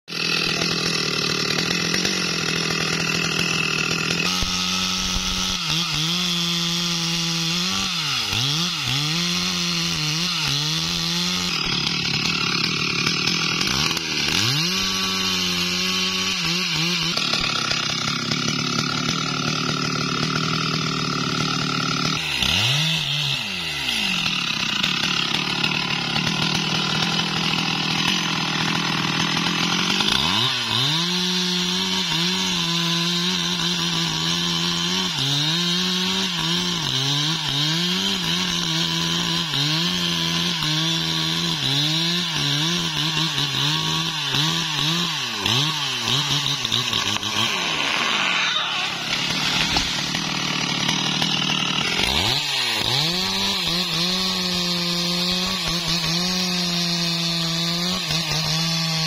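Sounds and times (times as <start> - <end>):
chainsaw cutting tree: 0.1 - 59.0.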